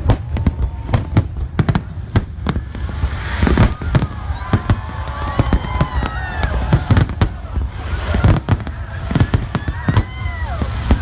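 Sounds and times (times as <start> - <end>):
fireworks bangs: 0.0 - 11.0
fireworks whistling: 0.0 - 11.0
low rumble: 0.0 - 11.0.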